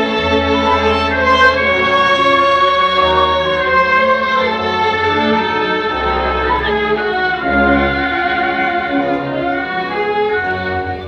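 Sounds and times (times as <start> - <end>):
bowed strings: 0.0 - 11.0.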